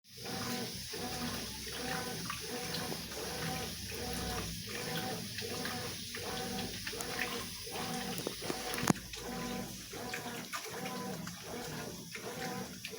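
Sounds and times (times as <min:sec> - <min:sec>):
washing machine motor humming: 0:00.1 - 0:12.9
water sloshing in tub: 0:00.1 - 0:12.9.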